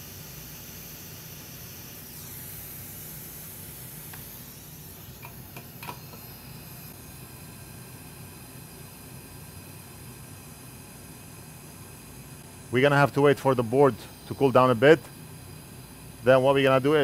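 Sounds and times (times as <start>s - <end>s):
fume extractor fan hiss: 0.0s - 17.0s.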